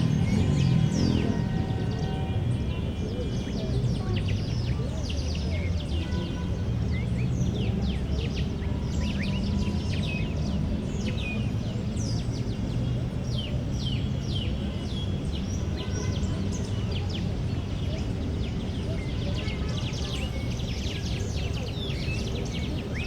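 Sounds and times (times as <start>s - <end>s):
distant city traffic: 0.0s - 23.0s
small birds chirping: 0.0s - 23.0s.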